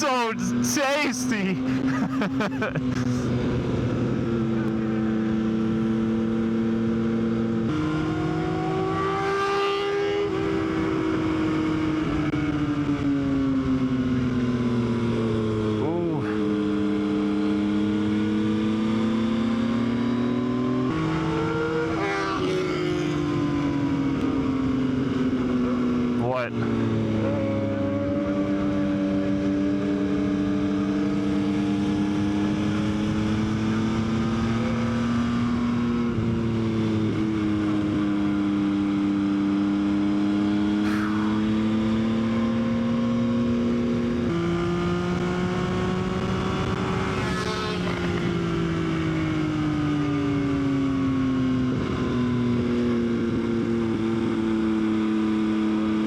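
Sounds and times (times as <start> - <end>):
motorcycle engine accelerating: 1.6 - 56.0.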